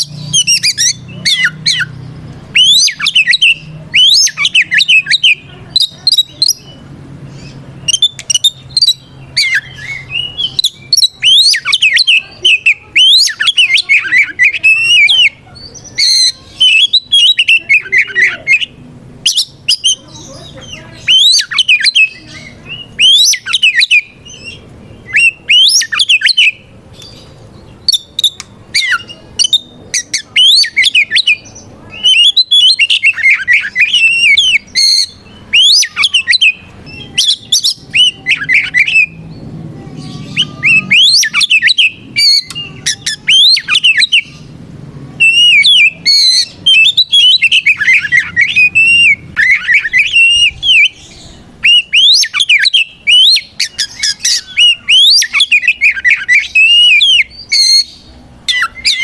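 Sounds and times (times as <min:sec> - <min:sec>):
bird singing whistles and squawks: 0:00.0 - 0:39.4, 0:40.0 - 0:44.5, 0:45.2 - 0:59.0.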